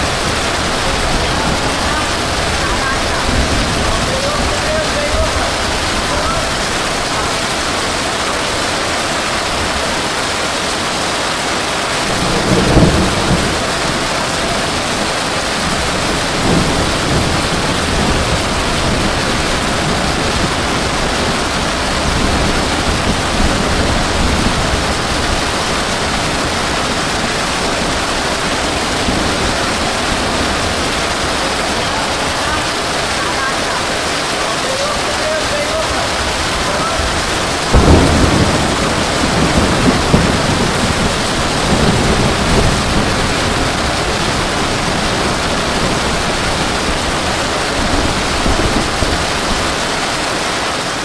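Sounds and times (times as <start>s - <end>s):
heavy rain falling: 0.0s - 51.0s.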